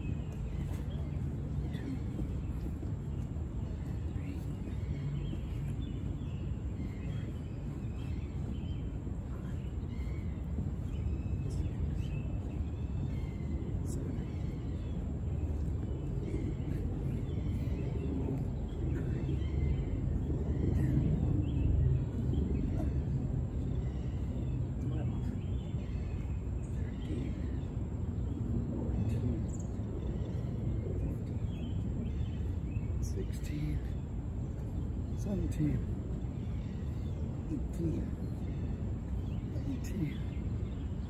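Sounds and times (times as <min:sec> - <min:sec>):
low background rumble: 0:00.0 - 0:41.0
small birds chirping: 0:00.0 - 0:41.0.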